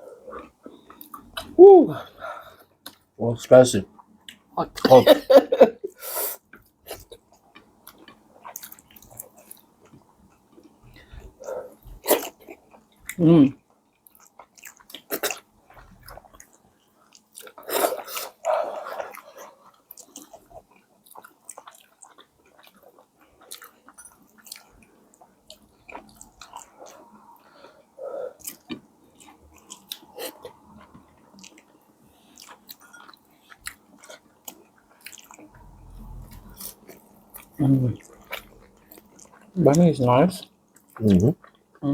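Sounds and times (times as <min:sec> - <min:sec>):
person chewing food: 0:00.0 - 0:03.1, 0:05.9 - 0:41.9.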